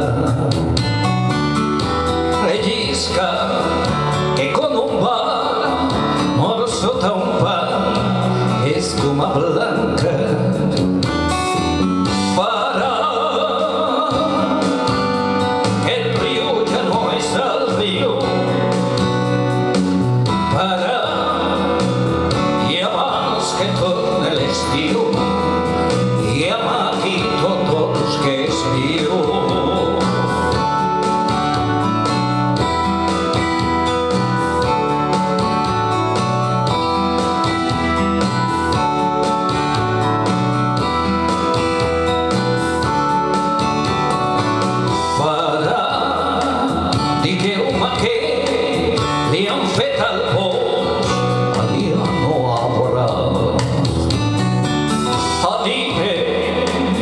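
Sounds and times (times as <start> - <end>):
instrumental accompaniment: 0.0 - 57.0
man singing slow ballad: 0.0 - 57.0.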